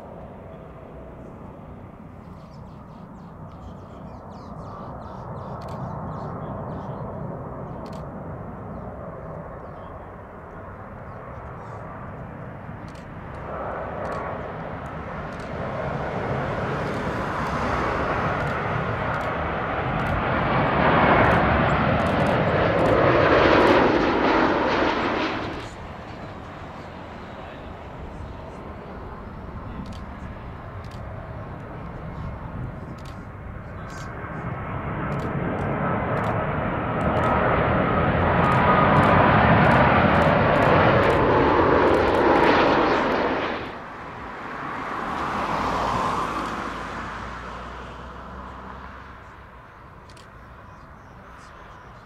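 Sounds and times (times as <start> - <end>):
airliner jet engines rushing: 0.0 - 52.0.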